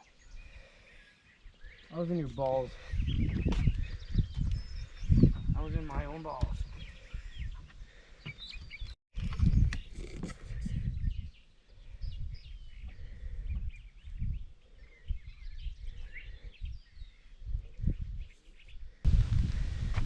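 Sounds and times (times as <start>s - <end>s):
birds chirping and calling: 0.0s - 19.1s.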